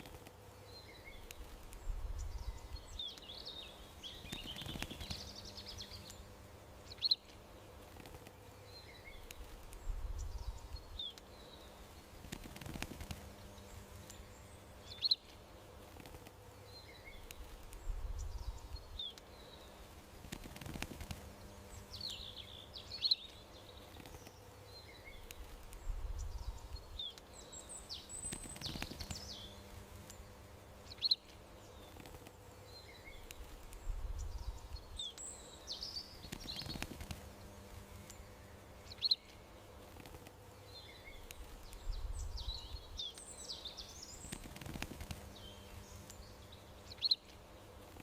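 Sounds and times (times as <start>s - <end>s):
faint background noise: 0.0s - 48.0s
small birds chirping: 0.0s - 48.0s.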